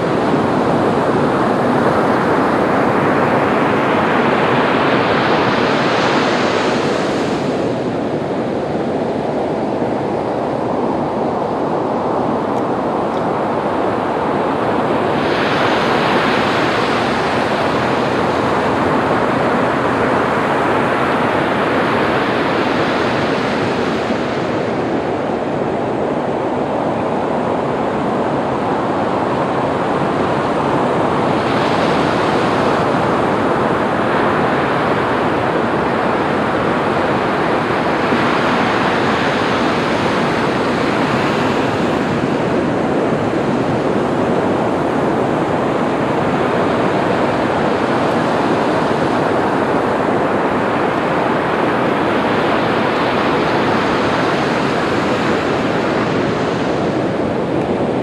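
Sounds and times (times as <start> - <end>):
waves breaking on beach: 0.0 - 58.0.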